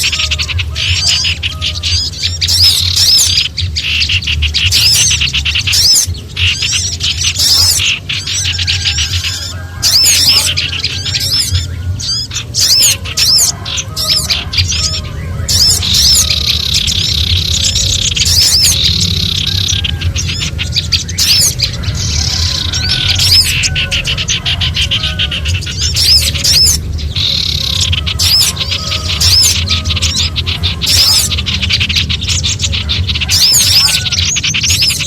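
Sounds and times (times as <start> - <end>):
small birds alarm calls: 0.0 - 35.0.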